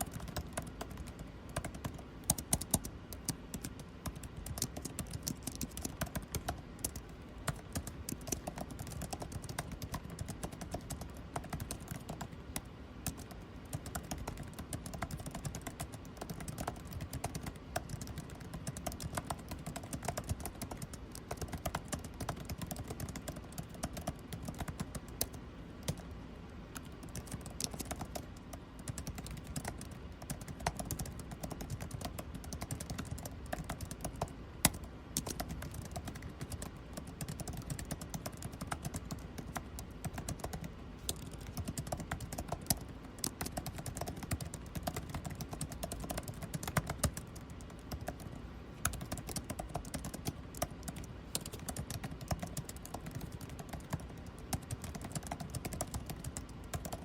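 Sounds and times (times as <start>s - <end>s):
air conditioning hum: 0.0s - 57.0s
keyboard typing: 0.0s - 57.0s.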